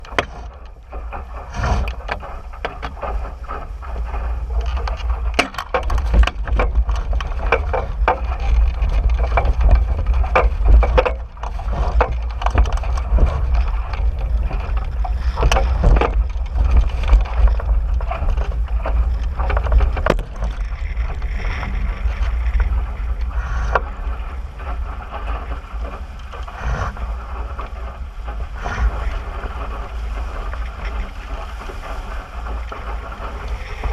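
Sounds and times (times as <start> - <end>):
knocks and slaps on boat: 0.0 - 33.9
wind rumble on microphone: 0.0 - 33.9.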